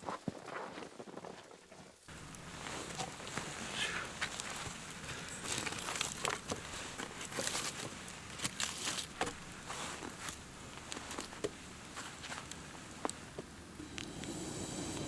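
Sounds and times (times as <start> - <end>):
crunching and crinkling: 0.0 - 13.6.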